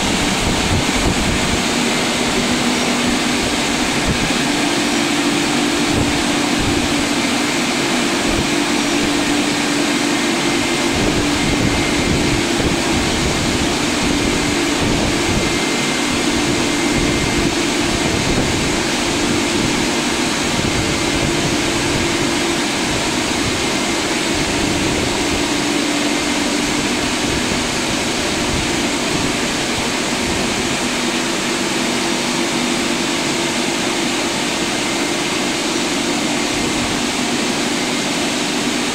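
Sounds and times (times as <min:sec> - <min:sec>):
car wash rushing noise: 0:00.0 - 0:38.9
low motor hum: 0:00.0 - 0:38.9.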